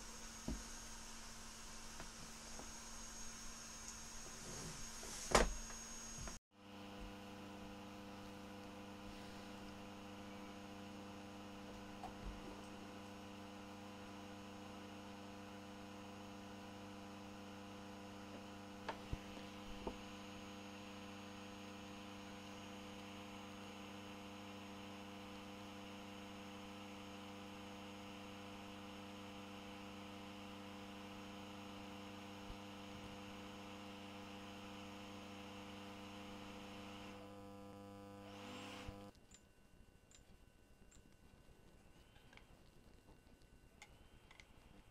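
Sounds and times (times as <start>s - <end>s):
electrical mains hum: 0.0s - 44.9s.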